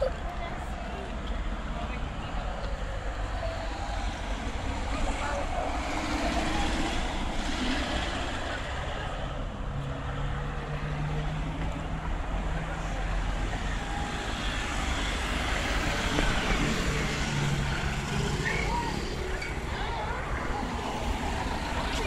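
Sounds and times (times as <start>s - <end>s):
street traffic noise: 0.0s - 22.0s.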